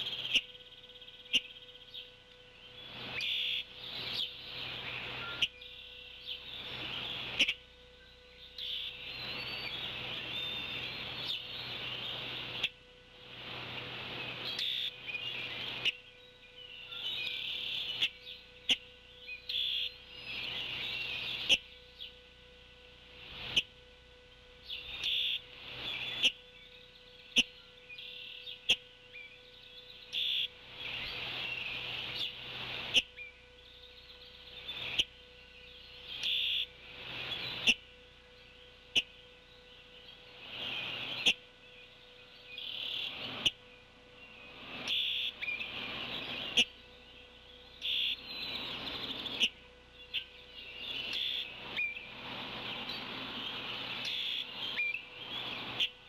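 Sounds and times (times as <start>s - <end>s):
birds chirping: 0.0s - 56.0s
faint steady hum: 0.0s - 56.0s.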